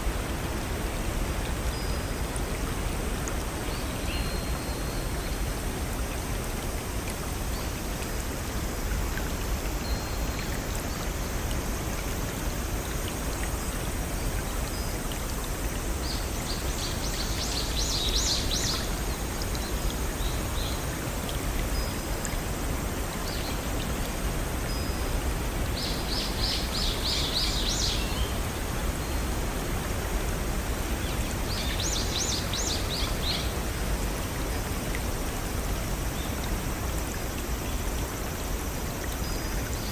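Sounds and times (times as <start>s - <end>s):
brook and small waterfalls: 0.0s - 39.9s.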